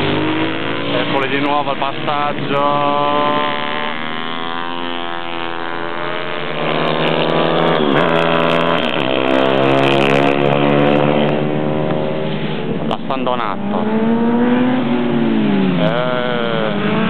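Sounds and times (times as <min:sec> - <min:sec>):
motorbike engines revving past: 0:00.0 - 0:17.0.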